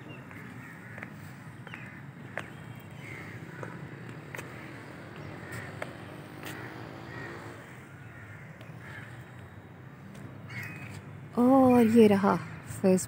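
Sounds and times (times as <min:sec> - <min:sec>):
crows cawing: 0:00.0 - 0:11.0, 0:11.6 - 0:12.9.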